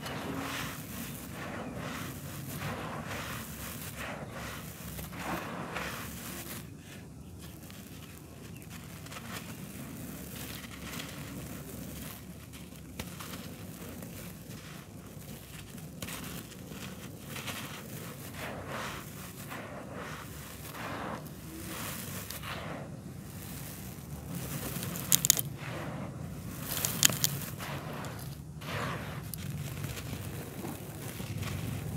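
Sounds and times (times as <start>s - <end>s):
dirt crumbling in hands: 0.0s - 31.9s
soil trickling onto floor: 0.0s - 31.9s.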